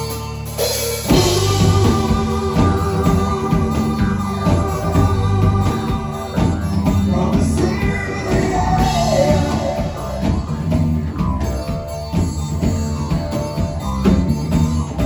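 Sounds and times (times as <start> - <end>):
live rock band playing: 0.0 - 15.0
wavering melody line: 1.1 - 14.8.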